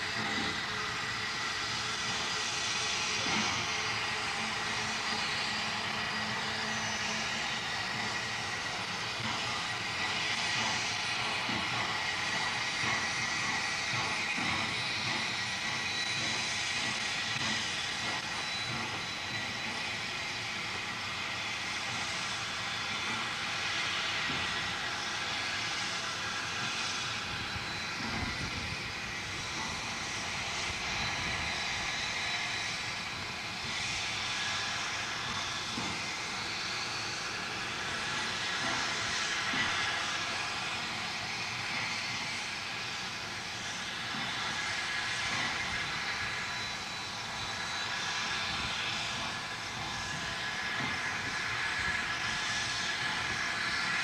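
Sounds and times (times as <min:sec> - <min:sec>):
steam locomotive and train approaching: 0:00.0 - 0:54.0.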